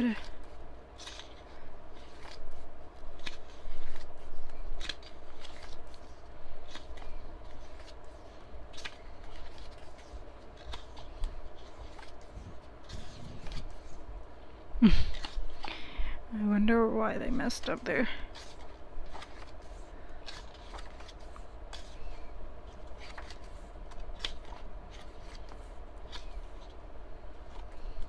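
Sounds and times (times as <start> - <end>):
paper pages rustling: 0.0 - 16.0, 17.3 - 28.0.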